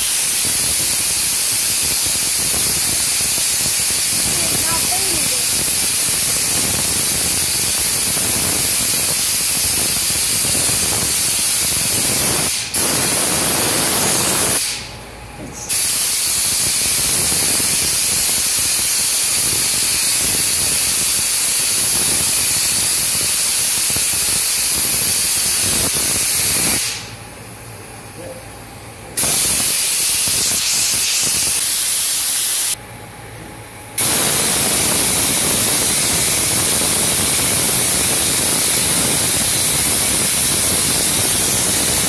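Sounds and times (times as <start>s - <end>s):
spray gun hissing: 0.0s - 14.8s, 15.7s - 27.0s, 29.2s - 32.8s, 34.0s - 42.0s.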